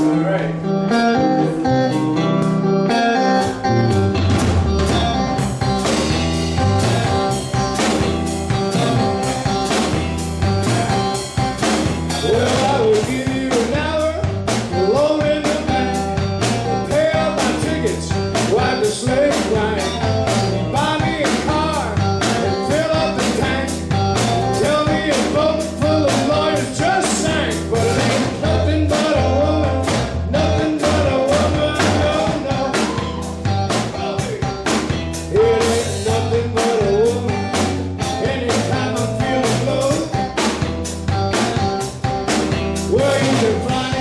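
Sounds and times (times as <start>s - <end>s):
bass guitar: 0.0s - 44.0s
drum kit beat: 0.0s - 44.0s
electric guitar: 0.0s - 44.0s.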